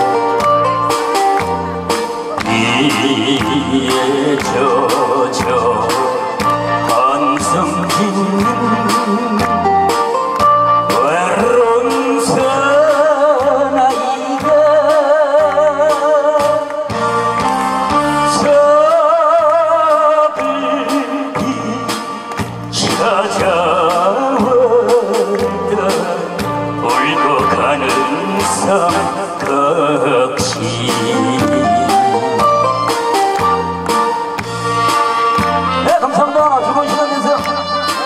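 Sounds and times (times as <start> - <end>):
backing track with bass and beat: 0.0 - 38.0
man singing into a microphone: 2.3 - 17.1, 18.0 - 32.9, 35.6 - 38.0.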